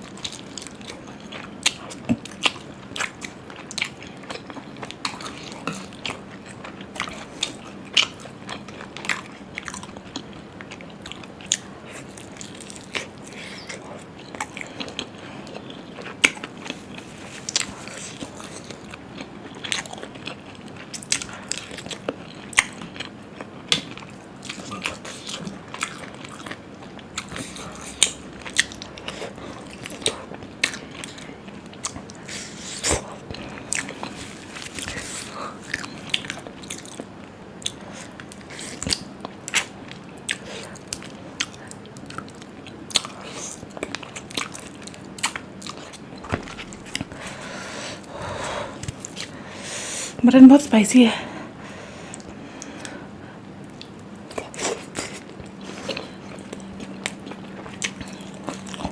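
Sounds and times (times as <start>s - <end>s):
person chewing food: 0.0s - 50.2s, 51.4s - 58.9s.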